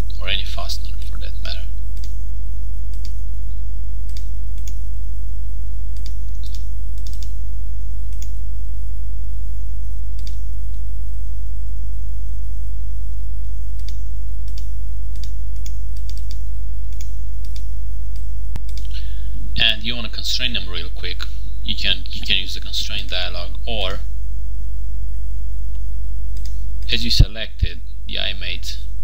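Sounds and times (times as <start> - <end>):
loud low hum: 0.0 - 29.0.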